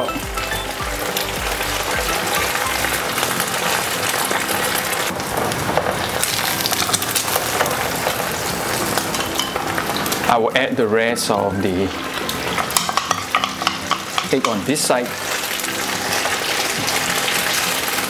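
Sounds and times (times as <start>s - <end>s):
oil sizzling in frying pan: 0.0s - 10.5s, 11.2s - 18.0s.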